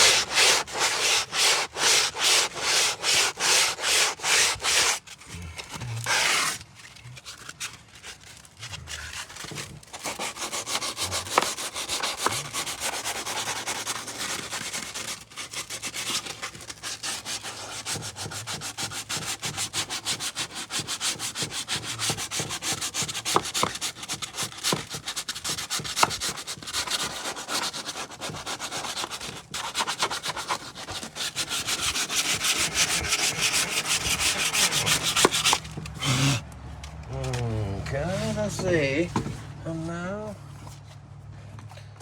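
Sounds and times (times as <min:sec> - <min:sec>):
hand sanding with sandpaper: 0:00.0 - 0:05.2, 0:06.0 - 0:08.5, 0:09.1 - 0:36.4, 0:37.9 - 0:39.9.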